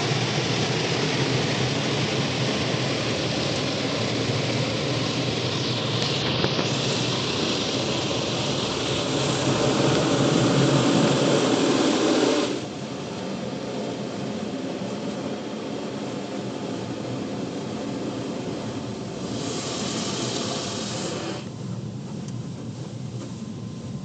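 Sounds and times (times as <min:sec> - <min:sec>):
car wash machinery rushing: 0:00.0 - 0:24.0.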